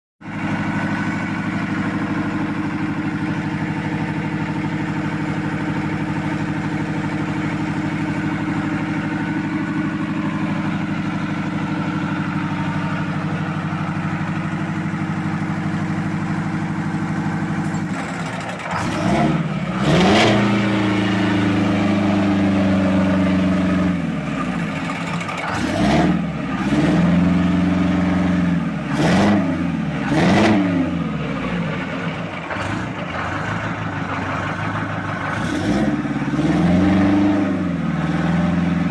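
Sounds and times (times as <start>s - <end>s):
car engine idling and revving: 0.2s - 38.9s.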